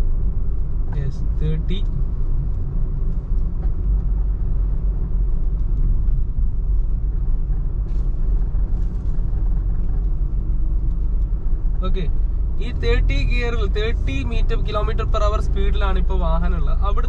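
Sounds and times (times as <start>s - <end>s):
car cabin engine rumble: 0.0s - 17.0s.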